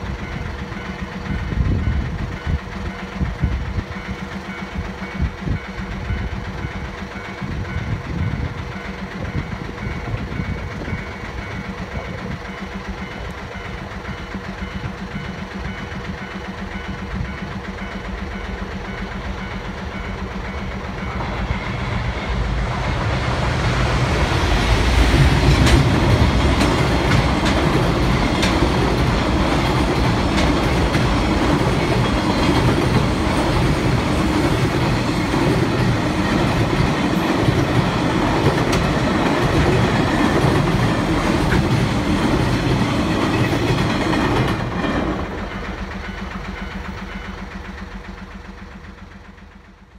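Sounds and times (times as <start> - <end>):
electric locomotive passing: 0.0 - 49.9
wagons clacking over rail joints: 6.1 - 48.0.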